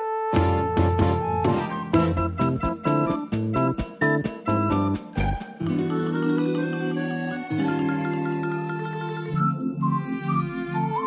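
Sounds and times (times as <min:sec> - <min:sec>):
instrumental music with pulsing bass: 0:00.4 - 0:11.0.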